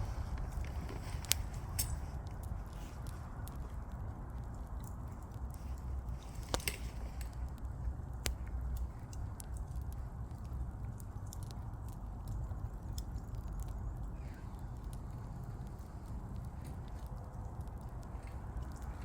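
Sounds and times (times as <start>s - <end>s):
low rumble: 0.0s - 19.0s
wood fire crackling and popping: 0.0s - 19.0s.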